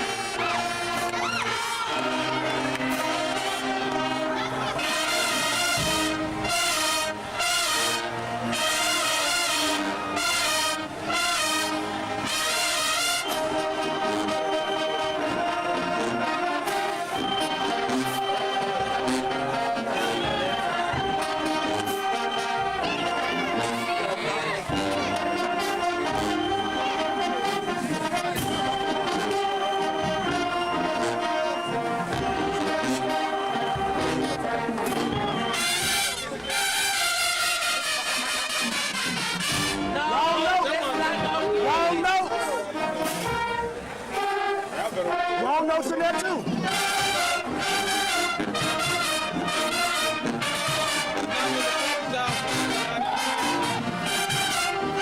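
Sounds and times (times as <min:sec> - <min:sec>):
brass section playing chords: 0:00.0 - 0:55.0.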